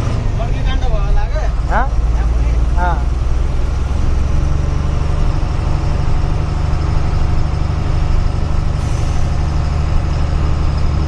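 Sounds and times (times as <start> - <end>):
diesel truck engine humming: 0.0 - 11.0.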